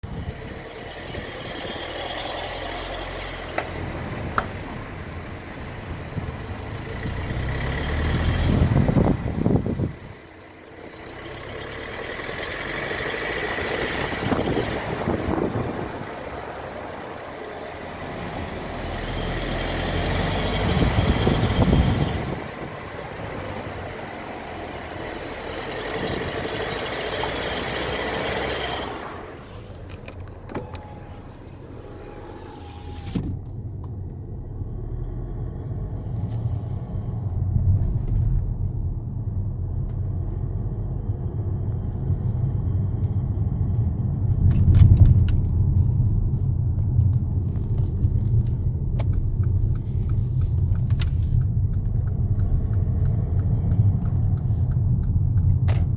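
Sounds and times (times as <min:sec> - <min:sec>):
car noise under acceleration: 0:00.0 - 0:55.9.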